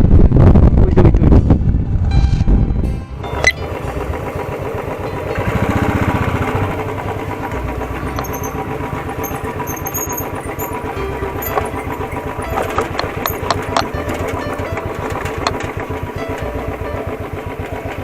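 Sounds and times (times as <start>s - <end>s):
motorcycle engine running: 3.2s - 18.0s.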